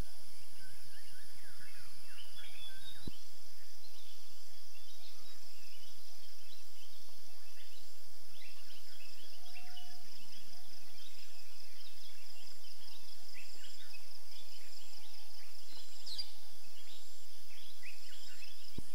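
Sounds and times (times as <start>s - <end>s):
bird chirps: 0.0s - 18.9s.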